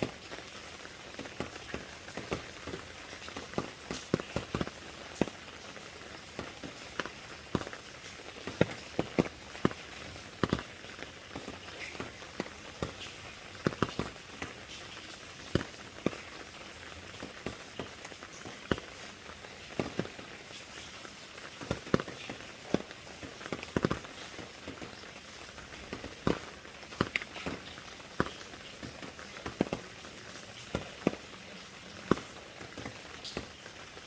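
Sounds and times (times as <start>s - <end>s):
large raindrops tapping: 0.0s - 34.0s
rain hissing: 0.0s - 34.0s.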